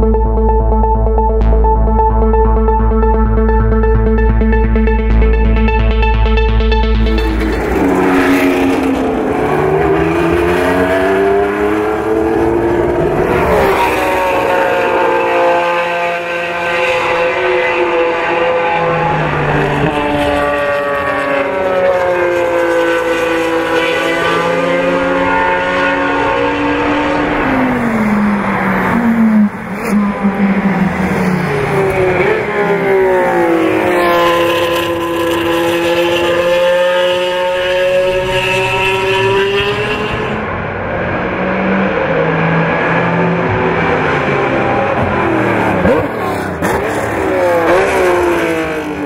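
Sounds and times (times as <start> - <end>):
racing engine at high revs: 4.4 - 49.0.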